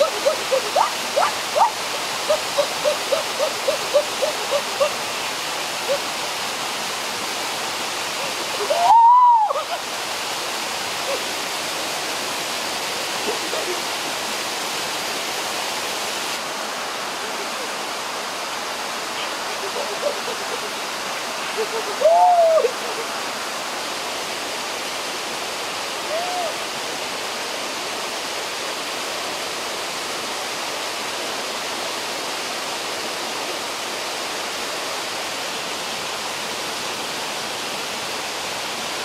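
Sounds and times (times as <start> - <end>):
waterfall rushing into pool: 0.0 - 39.0.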